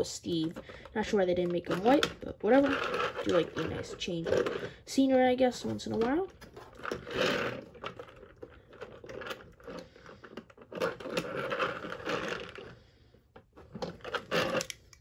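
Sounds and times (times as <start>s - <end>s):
toy cars scraping and clicking: 0.0s - 15.0s.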